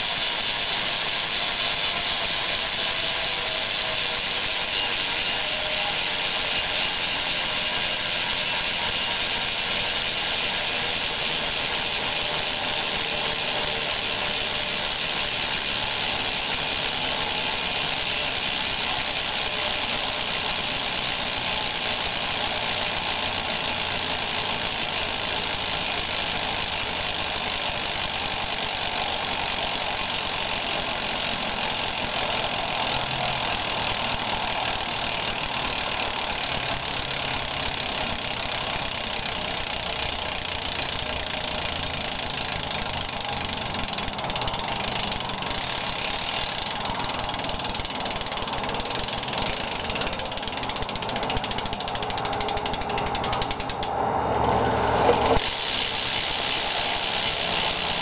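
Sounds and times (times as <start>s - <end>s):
bicycle hub freewheel buzz: 0.0s - 58.0s.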